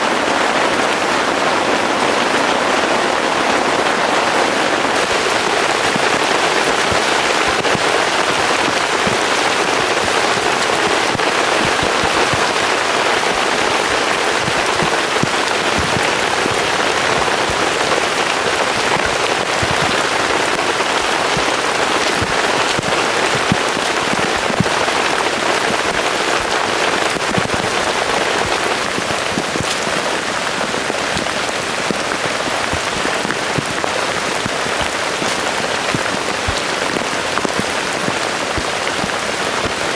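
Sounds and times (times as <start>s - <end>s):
heavy rain falling: 0.0s - 39.9s
raindrops tapping close by: 0.0s - 39.9s.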